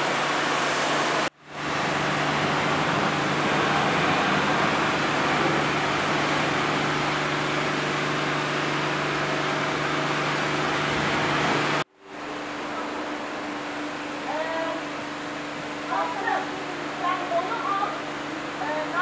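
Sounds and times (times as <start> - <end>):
machine noise with low hum: 0.0 - 19.0.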